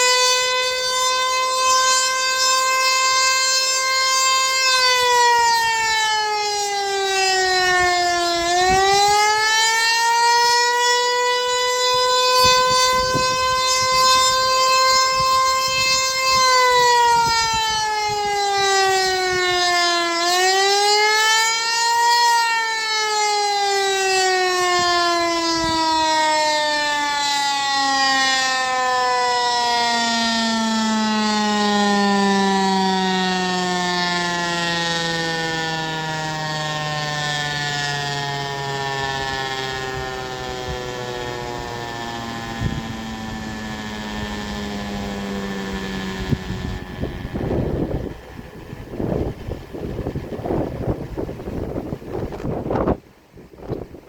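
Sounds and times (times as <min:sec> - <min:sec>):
fire siren winding: 0:00.0 - 0:54.0.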